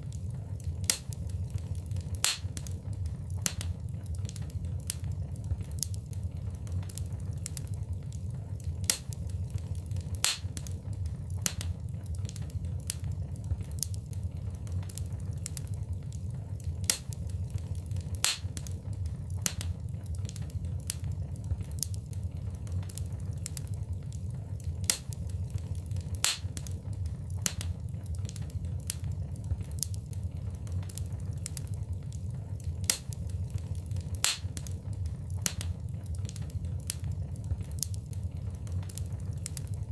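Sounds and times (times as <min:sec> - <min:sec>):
loud fire snap: 0:00.0 - 0:39.9
low rumble of flames: 0:00.0 - 0:39.9
wood fire crackling and popping: 0:00.0 - 0:39.9.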